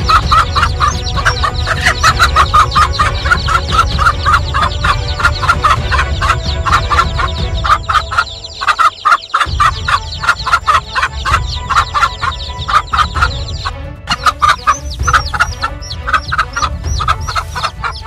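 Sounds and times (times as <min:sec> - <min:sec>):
hen clucking rapidly: 0:00.0 - 0:18.0.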